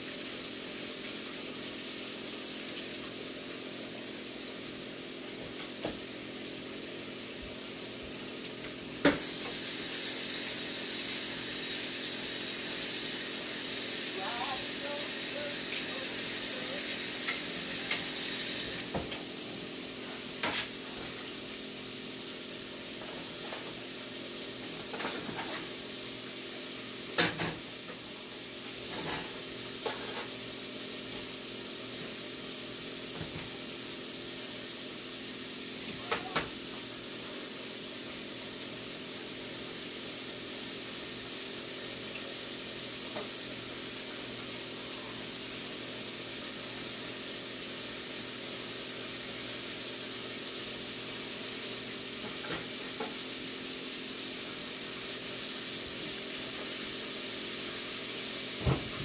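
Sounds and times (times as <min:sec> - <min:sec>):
oil sizzling in a skillet: 0:00.0 - 0:59.0.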